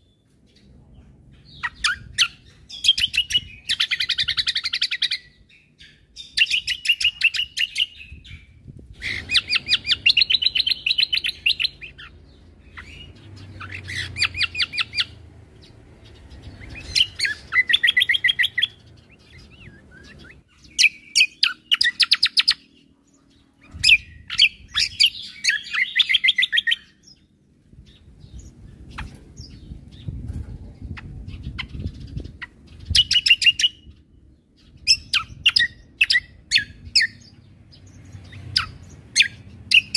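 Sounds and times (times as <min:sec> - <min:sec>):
songbird chattering trills: 0:01.4 - 0:39.9.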